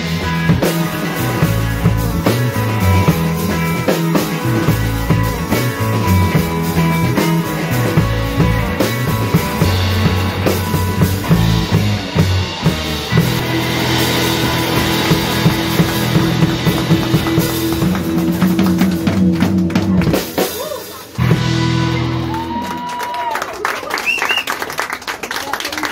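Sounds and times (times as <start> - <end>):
drum kit: 0.0 - 23.0
bass guitar: 0.0 - 23.1
electric guitars: 0.0 - 23.2.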